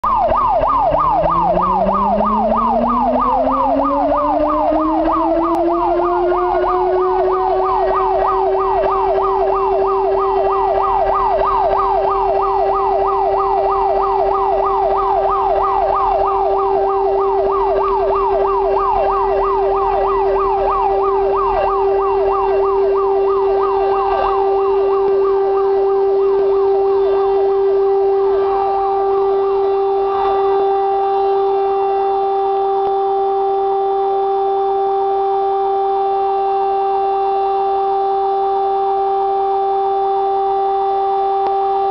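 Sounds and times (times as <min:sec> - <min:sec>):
alarm siren winding up: 0:00.0 - 0:41.9
fire engine siren yelping: 0:00.0 - 0:41.9.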